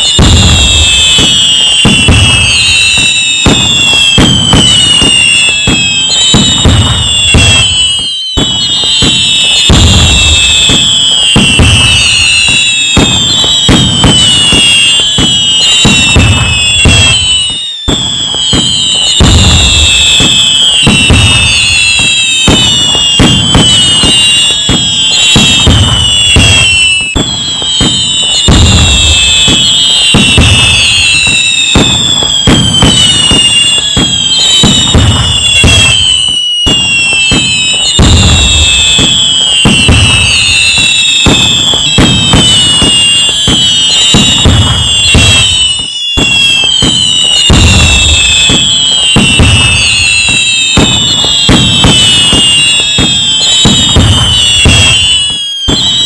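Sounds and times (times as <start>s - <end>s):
firework bangs and crackling: 0.0s - 56.0s
firework whistles: 0.0s - 56.0s.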